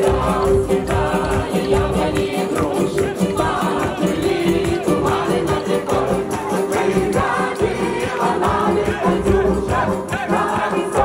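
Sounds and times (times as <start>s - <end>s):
group of voices singing: 0.0s - 11.0s
shaken percussion beat: 0.0s - 11.0s.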